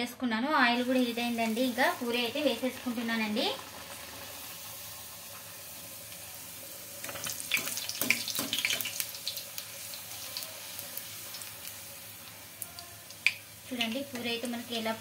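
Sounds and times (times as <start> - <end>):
bread deep-frying in hot oil: 0.7 - 15.0.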